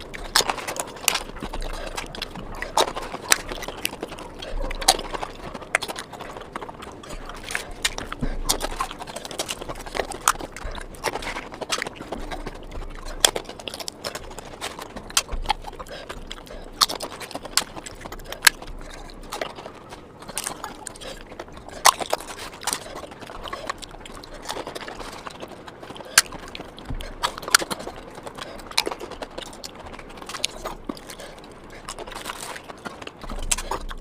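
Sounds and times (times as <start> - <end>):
chewing and biting: 0.0 - 34.0
sharp wet clicks: 0.0 - 34.0.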